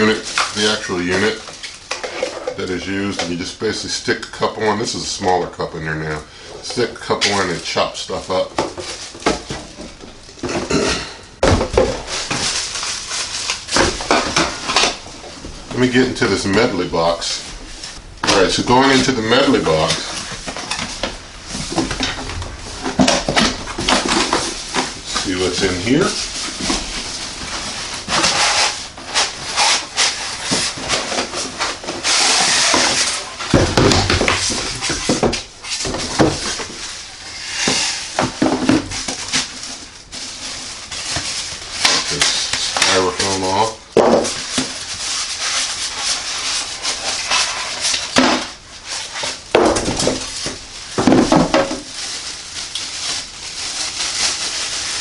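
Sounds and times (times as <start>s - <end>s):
packaging rubbing and knocking: 0.0s - 3.4s, 6.8s - 10.8s, 11.4s - 55.0s
plastic wrap crinkling: 0.0s - 55.0s.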